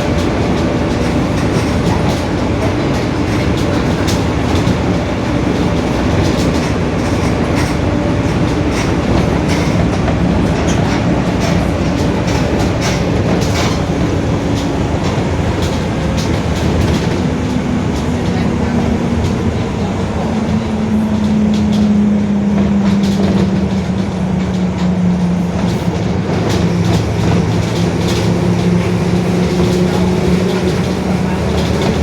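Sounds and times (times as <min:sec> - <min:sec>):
bus differential droning: 0:00.0 - 0:32.0.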